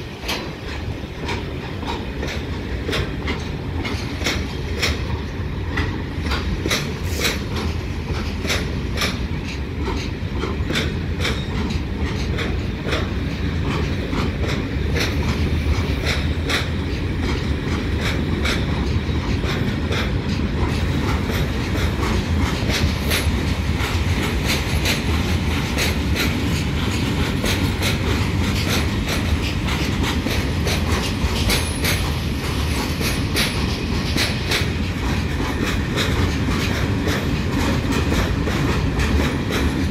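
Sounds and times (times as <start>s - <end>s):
freight train rumbling past: 0.0s - 39.9s
wheels clicking over rail joints: 0.0s - 39.9s.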